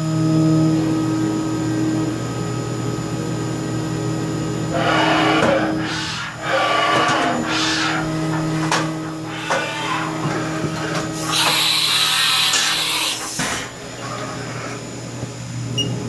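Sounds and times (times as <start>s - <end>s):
milling machine hum and whine: 0.0s - 16.0s.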